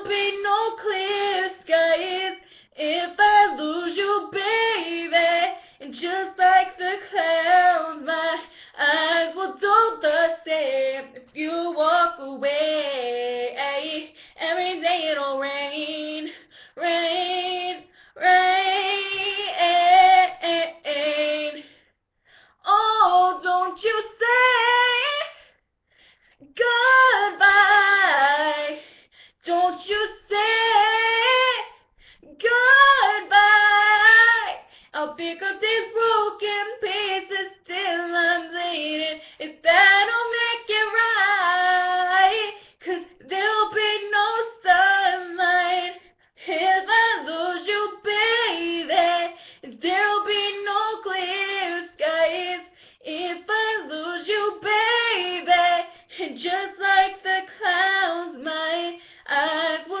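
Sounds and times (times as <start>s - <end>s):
young female voice singing: 0.0s - 21.8s, 22.6s - 25.5s, 26.5s - 60.0s.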